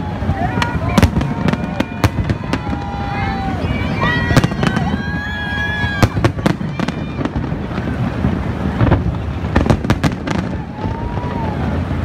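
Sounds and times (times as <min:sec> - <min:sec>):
fireworks bangs and cracks: 0:00.0 - 0:12.0
low rumble of fireworks: 0:00.0 - 0:12.0.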